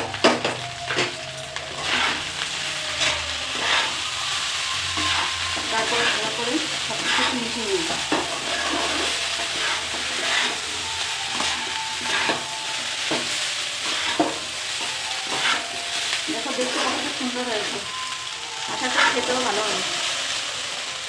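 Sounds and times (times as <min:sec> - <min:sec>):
rice sizzling in oil: 0:00.0 - 0:21.0
steel spatula scraping a pan: 0:00.9 - 0:20.4.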